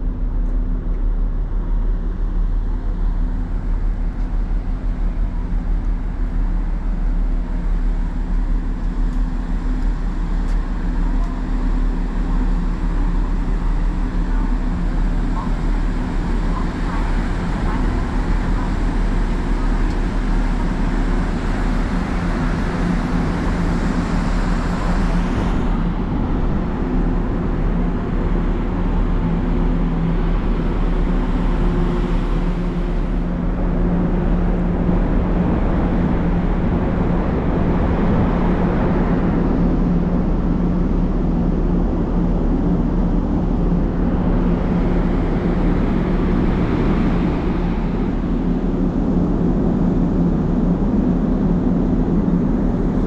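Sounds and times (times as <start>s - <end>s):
ship machinery drone: 0.0s - 53.0s.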